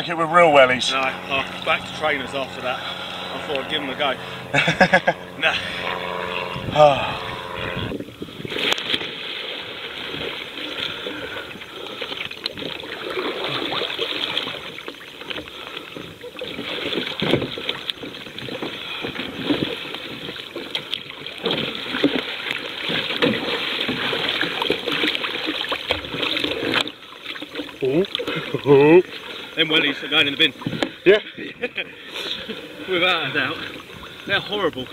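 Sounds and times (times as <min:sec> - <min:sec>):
water splashing and sloshing: 0:00.0 - 0:06.5, 0:07.2 - 0:34.9.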